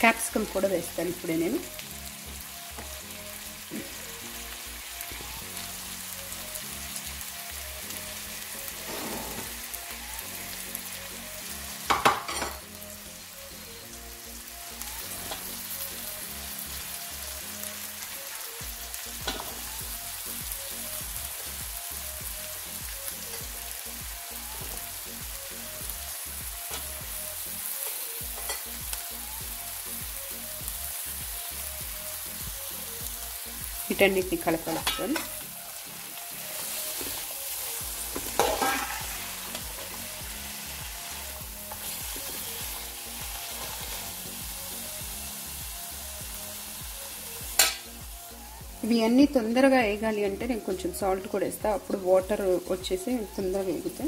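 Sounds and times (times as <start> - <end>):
vegetables sizzling in a pan: 0.0 - 54.0.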